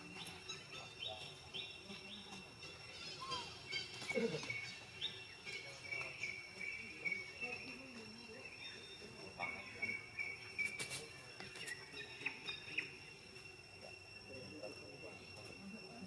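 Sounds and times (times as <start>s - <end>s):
bird chirps: 0.0s - 16.0s
high insect drone: 0.0s - 16.0s.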